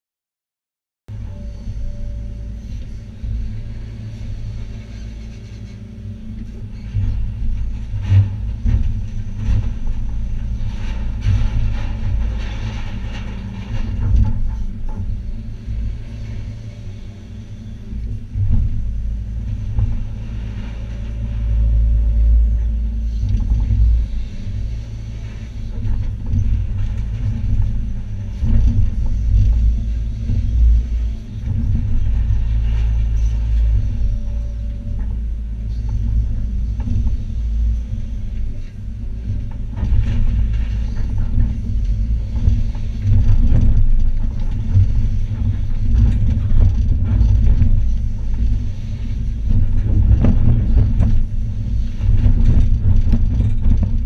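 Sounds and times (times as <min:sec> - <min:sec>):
excavator engine and hydraulics rumble: 0:01.1 - 0:54.0.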